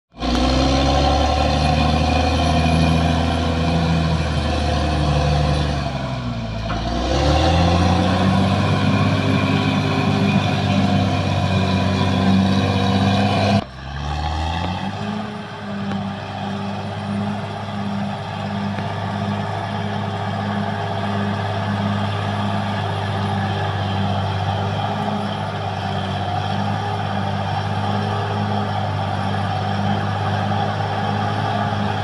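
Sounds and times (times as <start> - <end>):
bulldozer diesel engine running: 0.1 - 32.0.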